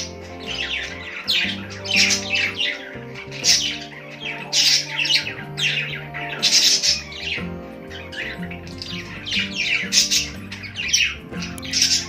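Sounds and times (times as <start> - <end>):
background music: 0.0 - 12.0
budgerigars chirping: 0.0 - 12.0.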